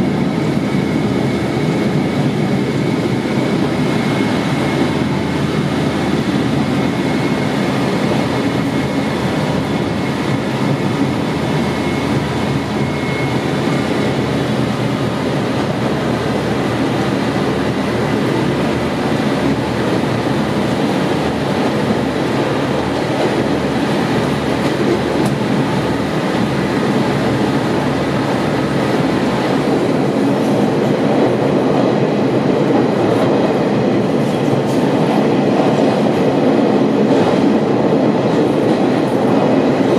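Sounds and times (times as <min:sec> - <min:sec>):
diesel railcar rumbling on rails: 0:00.0 - 0:39.9.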